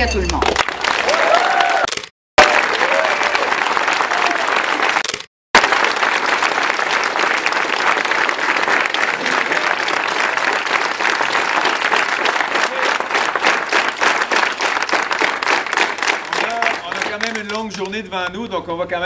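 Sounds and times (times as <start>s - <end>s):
crowd applauding: 0.3s - 18.0s.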